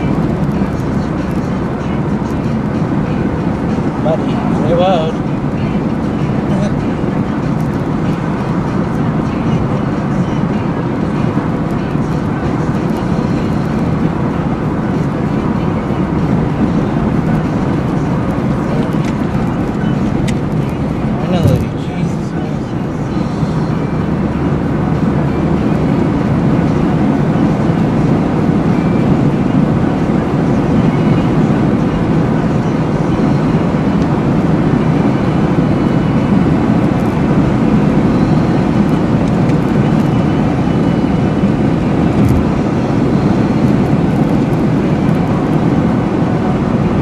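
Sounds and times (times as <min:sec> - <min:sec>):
car engine noise: 0:00.0 - 0:47.0
tyres humming on road: 0:00.0 - 0:47.0.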